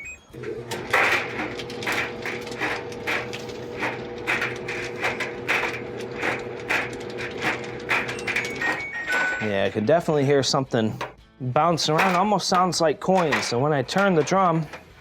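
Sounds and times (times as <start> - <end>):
dryer motor and drum hum: 0.4 - 9.8, 12.0 - 15.0
loose objects clinking in drum: 0.4 - 9.8, 11.8 - 15.0.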